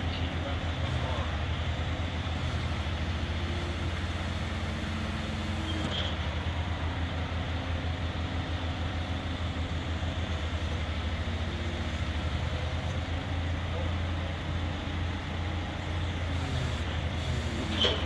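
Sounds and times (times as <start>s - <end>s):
forklift engine idling: 0.0s - 18.0s.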